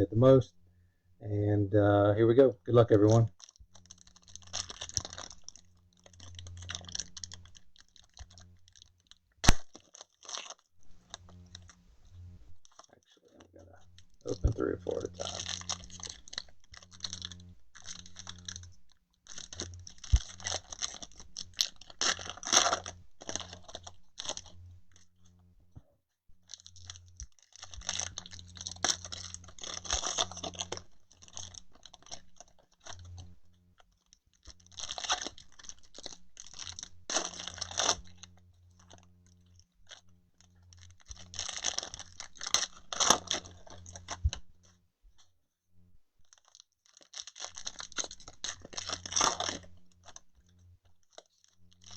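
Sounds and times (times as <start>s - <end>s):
plastic wrappers crackling: 3.0s - 11.8s, 12.6s - 25.0s, 26.4s - 44.4s, 46.2s - 51.9s.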